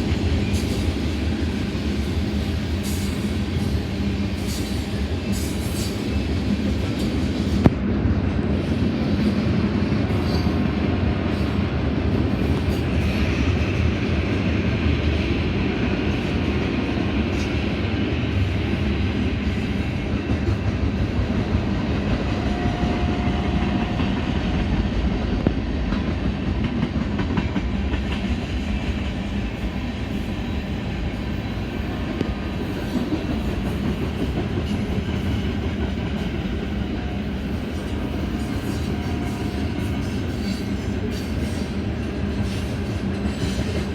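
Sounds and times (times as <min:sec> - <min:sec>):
clickety-clack over rail joints: 0:00.0 - 0:43.9
train wheels rumbling on rail: 0:00.0 - 0:43.9.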